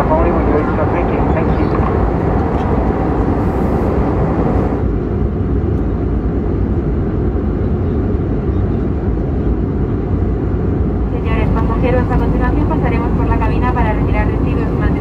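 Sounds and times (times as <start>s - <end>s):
airliner cabin engine roar: 0.0s - 15.0s.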